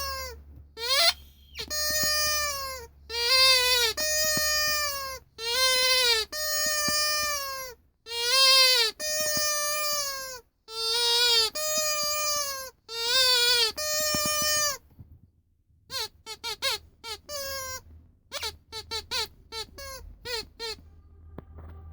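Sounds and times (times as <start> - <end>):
rubber squeaky toy squeaking: 0.0 - 14.9, 15.9 - 21.0.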